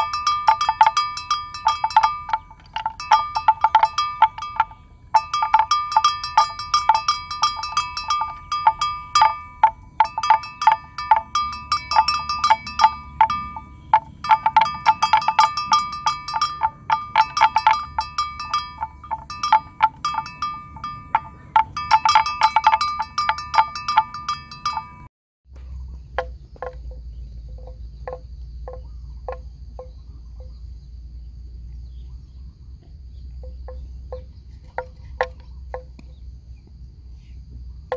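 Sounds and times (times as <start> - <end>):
animal bells clanking: 0.0 - 25.1, 25.7 - 37.9
lower-pitched bell knocking: 0.0 - 30.6, 33.4 - 36.2.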